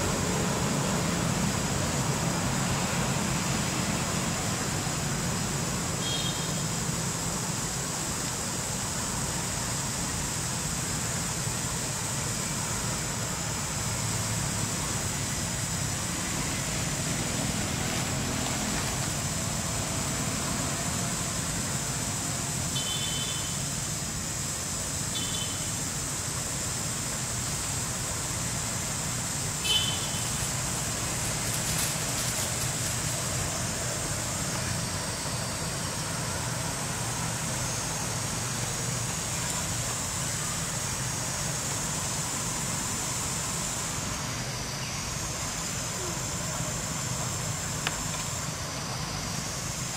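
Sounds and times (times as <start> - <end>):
high steady hiss: 0.0 - 49.9.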